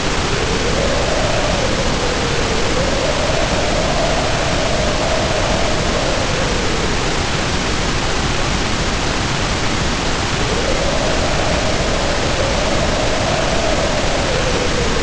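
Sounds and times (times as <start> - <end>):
heavy rain: 0.0 - 15.0
wind howling: 0.0 - 15.0.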